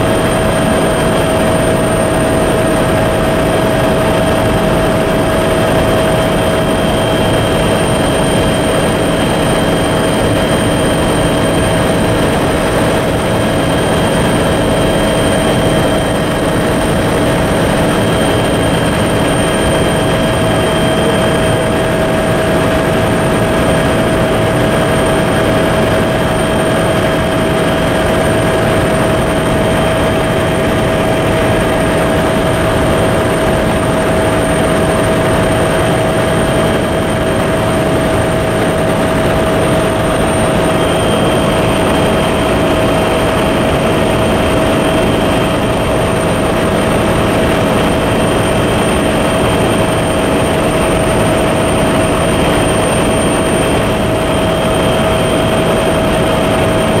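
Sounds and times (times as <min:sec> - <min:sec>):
helicopter engine and rotor noise: 0:00.0 - 0:57.0.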